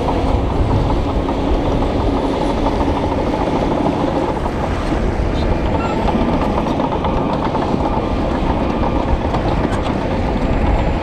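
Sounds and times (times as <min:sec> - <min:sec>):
bulldozer diesel engine working: 0:00.0 - 0:11.0
steel tracks clattering: 0:00.0 - 0:11.0.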